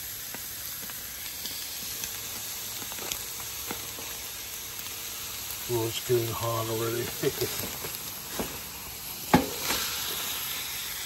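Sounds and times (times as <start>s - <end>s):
chicken sizzling on grill: 0.0s - 11.0s.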